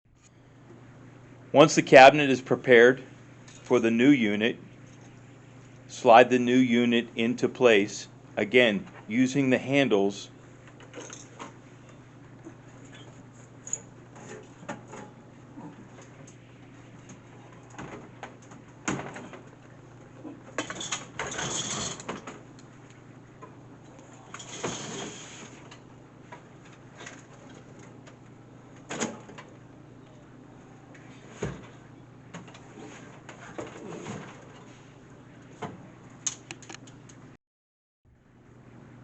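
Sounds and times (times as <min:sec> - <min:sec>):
steady low hum: 0:00.1 - 0:37.4.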